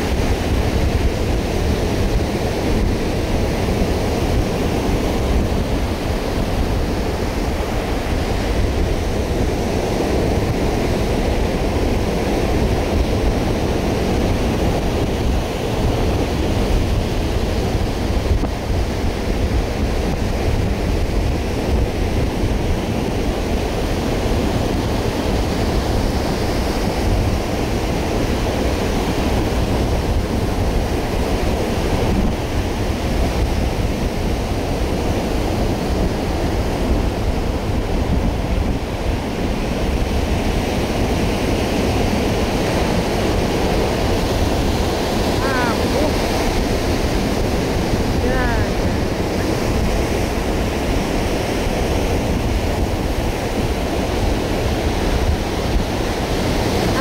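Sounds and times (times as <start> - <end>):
ocean surf on sandy beach: 0.0 - 57.0
wind noise on microphone: 0.0 - 57.0.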